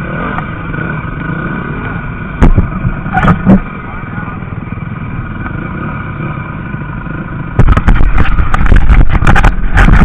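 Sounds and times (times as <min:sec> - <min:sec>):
loud rough engine rumble: 0:00.0 - 0:10.0
motocross bike engines droning: 0:00.0 - 0:10.0.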